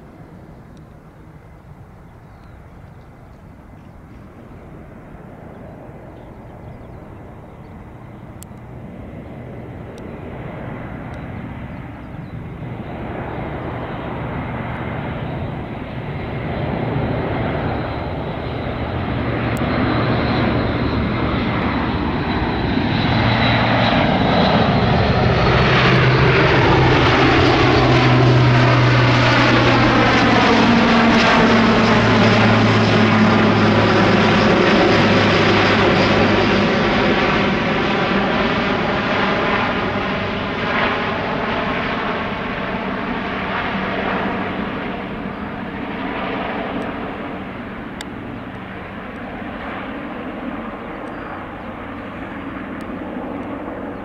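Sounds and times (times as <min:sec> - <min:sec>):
propeller aircraft drone overhead: 0:00.0 - 0:54.0.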